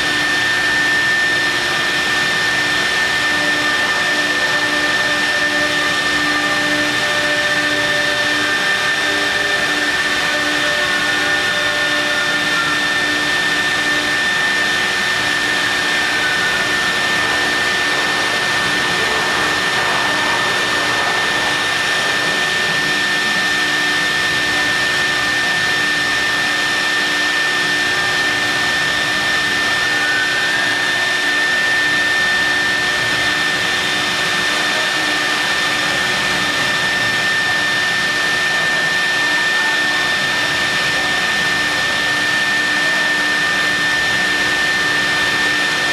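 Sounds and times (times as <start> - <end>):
milling machine whining: 0.0 - 45.9.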